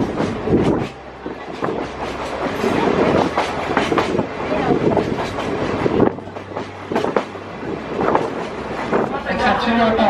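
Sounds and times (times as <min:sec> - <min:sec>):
train carriage rumble: 0:00.0 - 0:10.0
wheels clacking over rails: 0:00.0 - 0:10.0.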